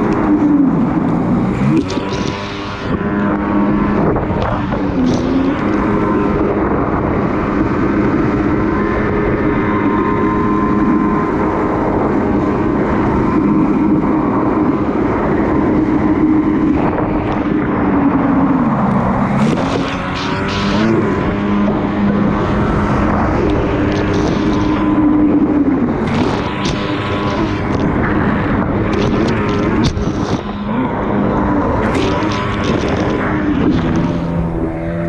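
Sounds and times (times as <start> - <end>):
jet ski engine running: 0.0 - 35.0
water and wind rushing: 0.0 - 35.0.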